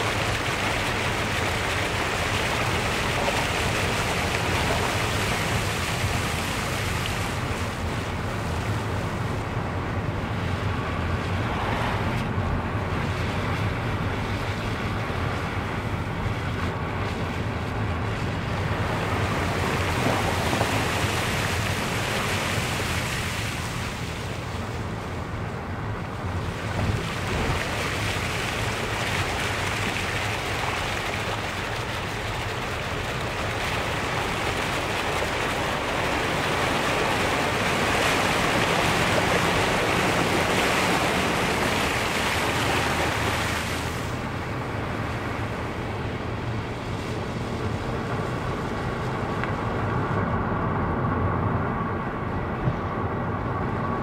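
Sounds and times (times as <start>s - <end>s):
tyres splashing through water: 0.0s - 50.3s
low engine hum: 0.0s - 54.0s
road noise: 0.0s - 54.0s.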